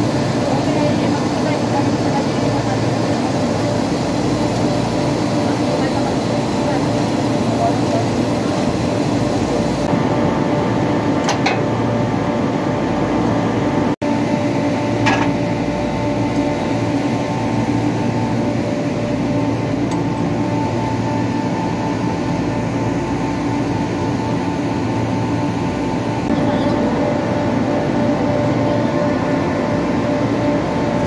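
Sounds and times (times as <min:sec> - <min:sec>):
refrigeration machinery humming: 0:00.0 - 0:31.0.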